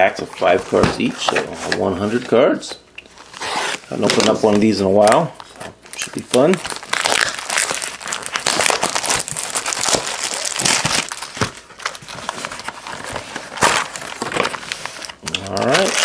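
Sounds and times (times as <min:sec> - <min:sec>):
plastic wrap crinkling and tearing: 0:03.2 - 0:16.0.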